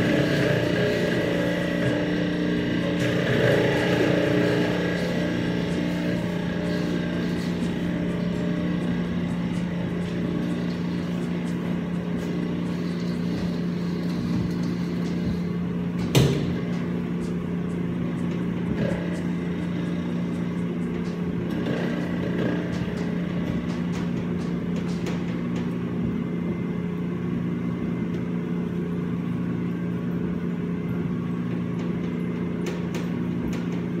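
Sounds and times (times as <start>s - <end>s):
kitchen machinery hum: 0.0s - 34.0s.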